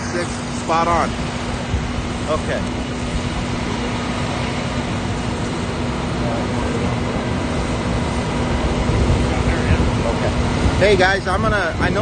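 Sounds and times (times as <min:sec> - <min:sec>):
hose spraying water: 0:00.0 - 0:12.0
pump engine humming: 0:00.0 - 0:12.0.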